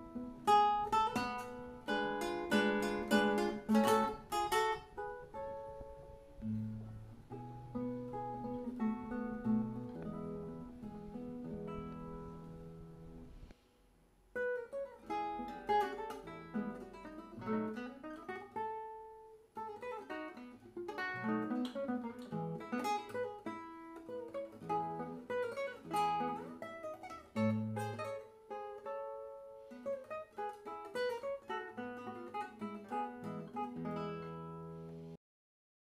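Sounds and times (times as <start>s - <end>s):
solo classical guitar: 0.0s - 35.2s.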